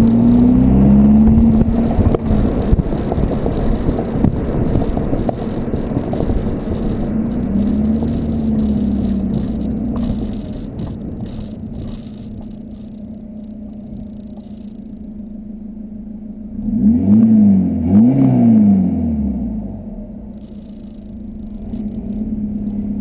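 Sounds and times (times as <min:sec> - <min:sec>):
diesel car engine idling and revving: 0:00.0 - 0:23.0.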